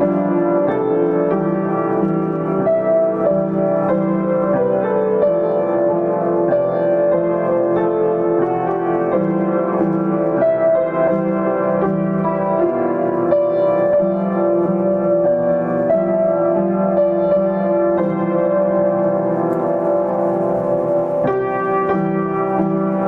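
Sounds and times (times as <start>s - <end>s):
slow gentle piano piece: 0.0s - 23.0s.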